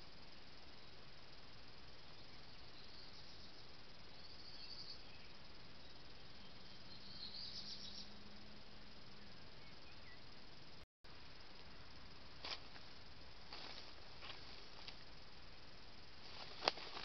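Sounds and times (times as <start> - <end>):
faint low hum: 0.0 - 17.0
high-pitched cricket-like chirping: 0.0 - 17.0
steady hiss: 0.0 - 17.0.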